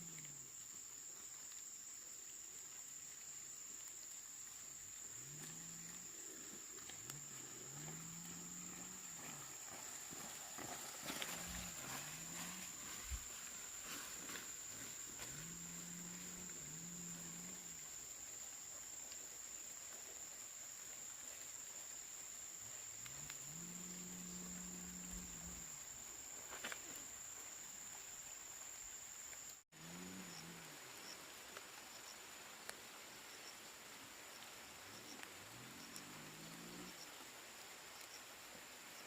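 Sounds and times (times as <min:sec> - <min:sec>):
crickets chirping drone: 0:00.0 - 0:39.0.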